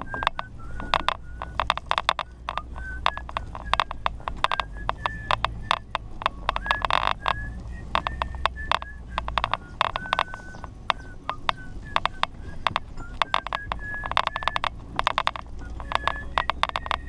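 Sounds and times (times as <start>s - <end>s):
truck body rattling and squeaking: 0.0s - 17.0s
truck engine hum: 0.0s - 17.0s.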